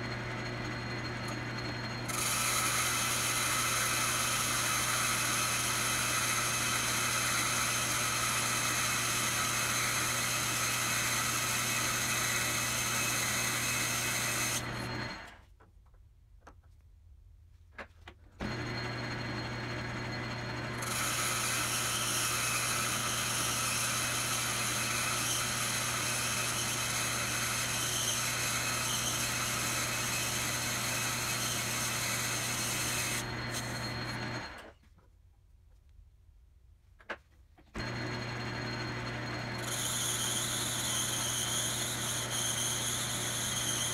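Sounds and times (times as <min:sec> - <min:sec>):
lathe running: 0:00.0 - 0:15.3, 0:18.4 - 0:34.7, 0:37.8 - 0:43.9
lathe tool cutting brass: 0:00.8 - 0:15.2, 0:18.4 - 0:34.6, 0:37.8 - 0:43.9.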